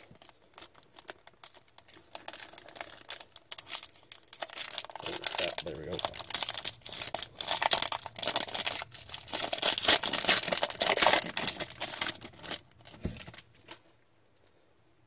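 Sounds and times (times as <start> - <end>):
plastic wrappers crinkling and tearing: 0.0 - 14.0.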